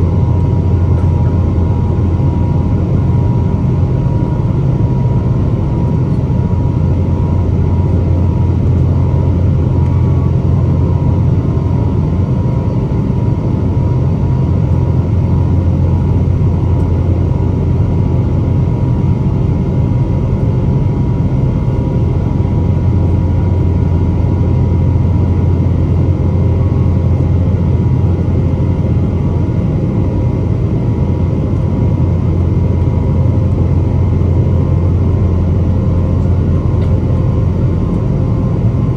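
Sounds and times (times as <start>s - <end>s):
faint steady whine: 0.0s - 38.9s
jet engines rumbling in cabin: 0.0s - 38.9s.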